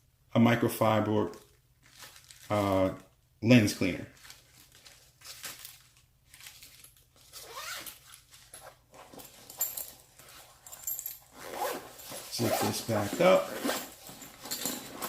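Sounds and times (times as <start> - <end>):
rustling of gear and fabric pouch: 1.3 - 3.0, 4.1 - 15.0.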